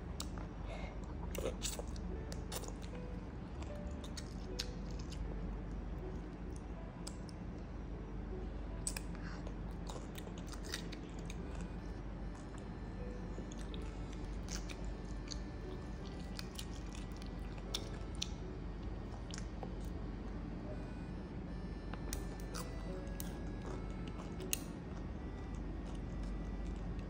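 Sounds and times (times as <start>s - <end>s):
toddler chewing food: 0.0s - 7.4s, 8.8s - 20.0s, 21.9s - 27.0s
steady low hum: 0.0s - 27.0s.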